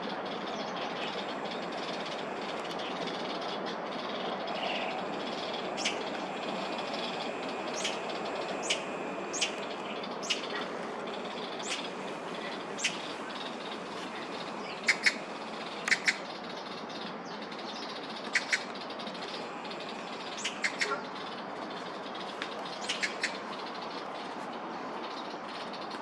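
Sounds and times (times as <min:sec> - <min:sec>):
magpies calling: 0:00.0 - 0:26.0
steady background noise: 0:00.0 - 0:26.0.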